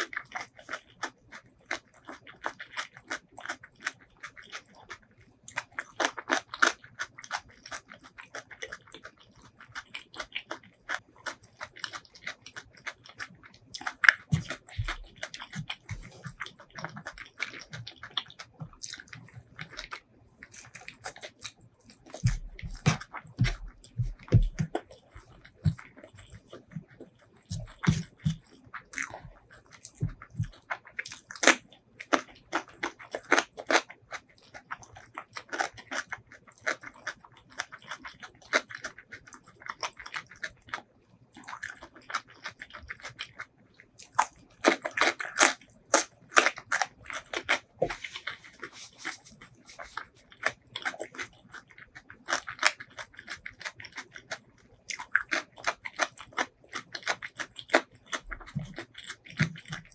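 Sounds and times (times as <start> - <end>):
crunching cucumber bites: 0.0 - 59.9
wet chewing with mouth clicks: 0.0 - 59.9.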